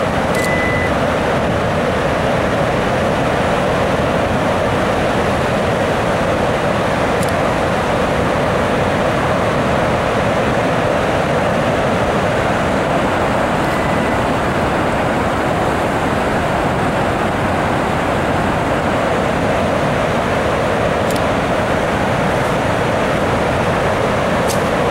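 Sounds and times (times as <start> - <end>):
water rushing over spillway: 0.0 - 24.9.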